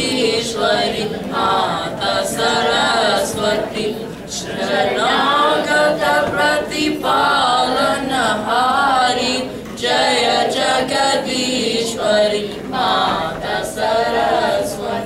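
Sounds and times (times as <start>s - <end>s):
children chanting a prayer: 0.0s - 15.0s.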